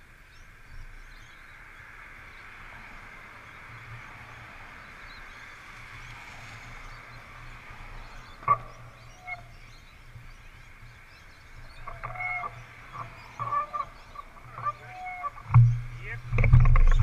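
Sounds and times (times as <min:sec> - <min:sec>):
birds chirping and squawking: 0:00.4 - 0:17.0.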